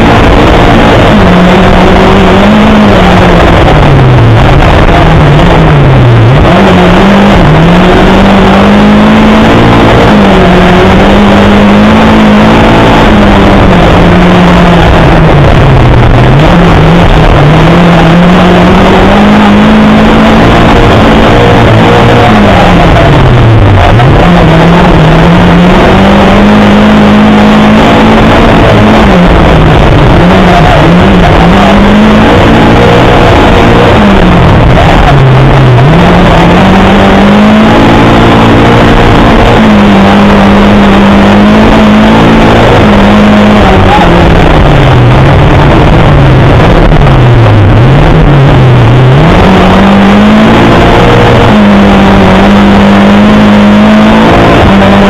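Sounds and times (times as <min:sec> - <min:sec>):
car engine revving loudly: 0:00.0 - 0:55.0
road noise rushing: 0:00.0 - 0:55.0.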